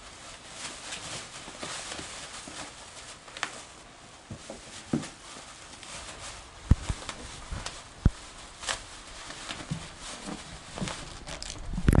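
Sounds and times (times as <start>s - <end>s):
plastic bag crinkling: 0.0s - 12.0s
puppies scuffling: 0.0s - 12.0s.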